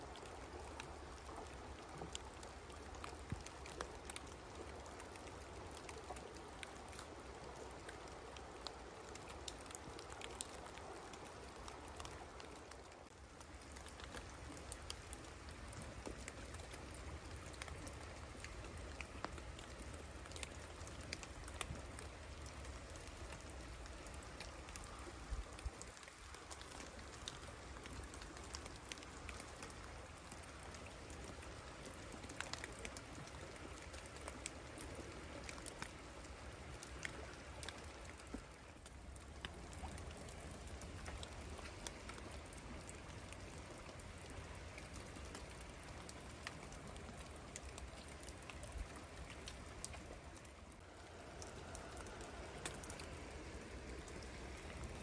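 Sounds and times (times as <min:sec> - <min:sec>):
soft hiss: 0:00.0 - 0:55.0.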